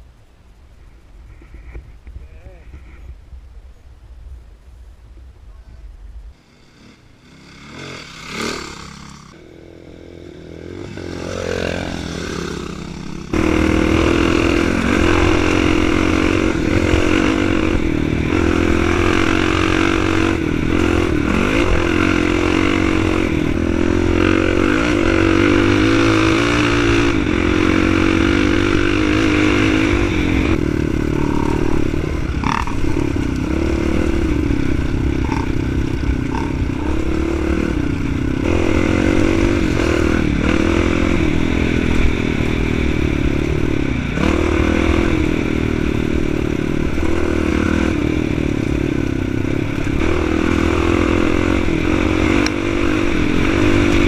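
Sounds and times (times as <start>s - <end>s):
dirt bike engine revving: 6.4s - 54.0s.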